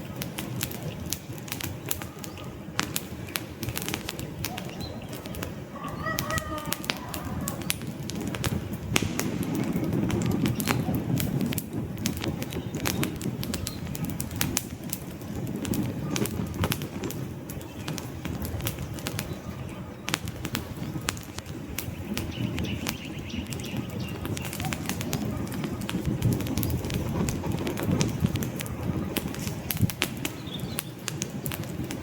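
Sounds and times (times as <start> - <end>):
campfire crackling and popping: 0.0 - 32.0
low rumble of flames: 0.0 - 32.0.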